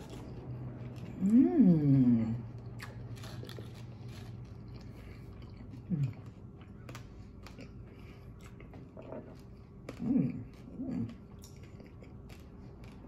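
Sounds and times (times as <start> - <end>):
hummed mmm sounds: 0.0 - 13.0
person chewing food: 0.0 - 13.0.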